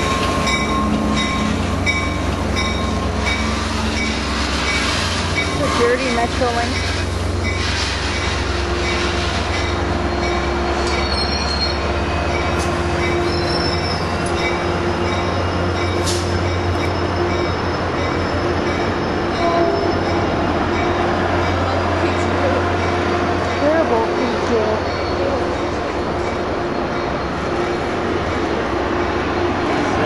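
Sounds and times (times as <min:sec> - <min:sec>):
high train squeals: 0:00.0 - 0:30.0
train rumbling by: 0:00.0 - 0:30.0.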